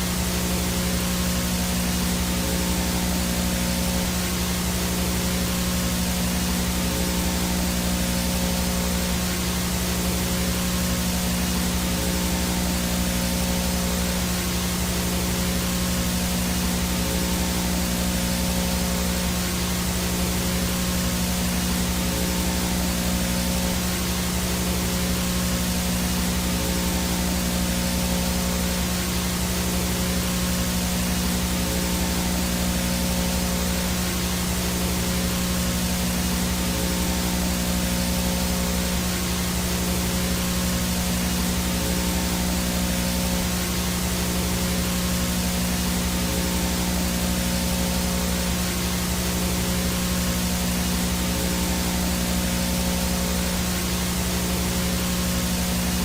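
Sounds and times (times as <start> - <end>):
electrical hum and buzz: 0.0 - 56.0
static hiss: 0.0 - 56.0.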